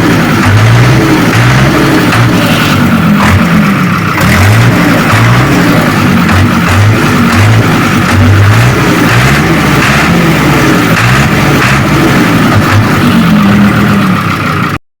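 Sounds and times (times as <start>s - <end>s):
tractor diesel engine running: 0.0s - 14.8s.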